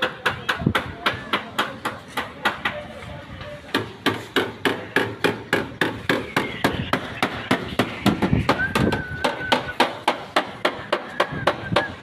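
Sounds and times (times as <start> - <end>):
hammer on sheet metal: 0.0 - 2.8, 3.7 - 12.0.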